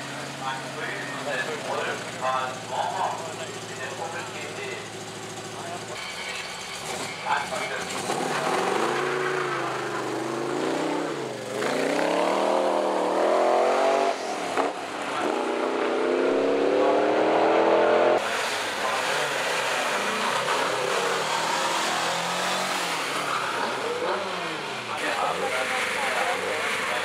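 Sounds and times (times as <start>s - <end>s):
car engine revving: 0.0s - 27.0s
car engine running low: 0.0s - 27.0s.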